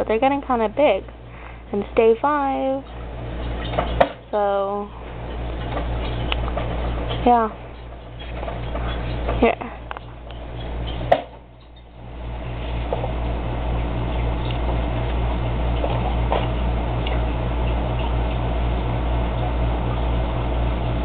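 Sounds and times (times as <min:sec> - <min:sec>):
steady low pulsing hum: 0:00.0 - 0:21.0.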